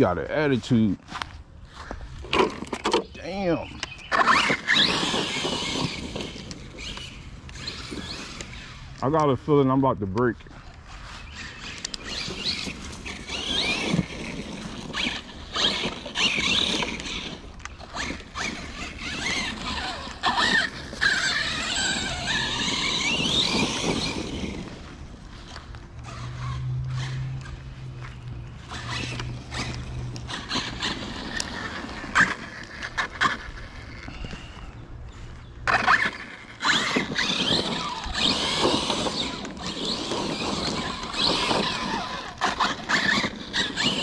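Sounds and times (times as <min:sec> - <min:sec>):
rc truck motor whine: 0:01.7 - 0:09.3, 0:10.5 - 0:44.0
scraping and knocks on ground: 0:02.2 - 0:03.2, 0:03.8 - 0:09.3, 0:11.6 - 0:34.6, 0:35.4 - 0:44.0.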